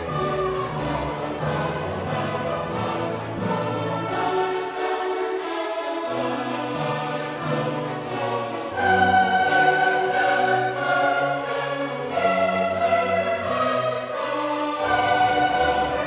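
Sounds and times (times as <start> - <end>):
choir singing slow chords: 0.0 - 16.0.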